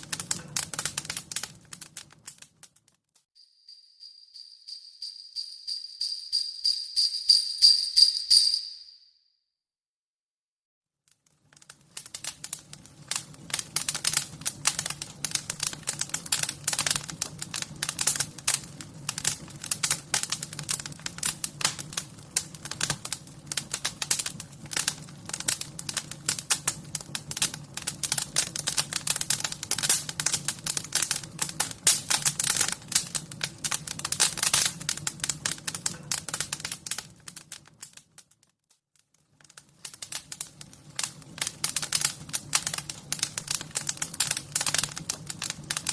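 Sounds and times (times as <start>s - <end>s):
wood fire crackling: 0.0s - 3.3s, 11.1s - 45.9s.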